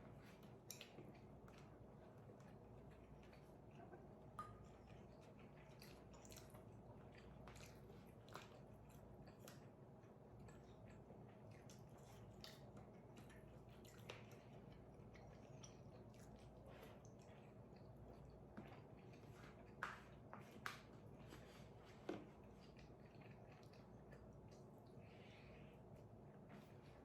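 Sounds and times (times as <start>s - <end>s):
low steady hum: 0.0s - 27.0s
chewing and mouth noises: 0.1s - 27.0s.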